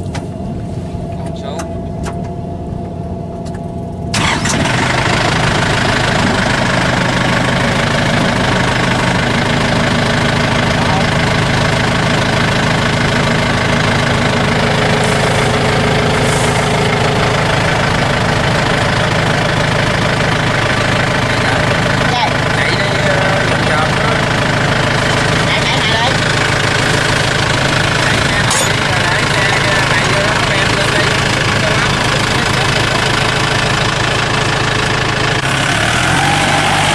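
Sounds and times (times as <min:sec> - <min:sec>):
tractor engine starting and running: 0:00.0 - 0:36.9.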